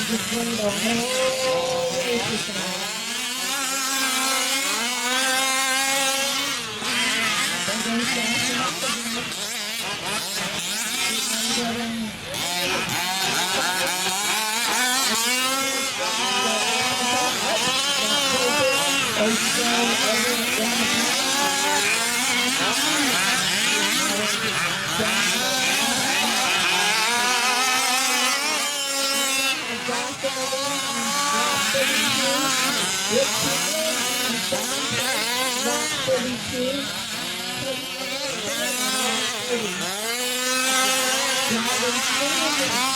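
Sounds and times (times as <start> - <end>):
small two-stroke engines revving: 0.0 - 42.9.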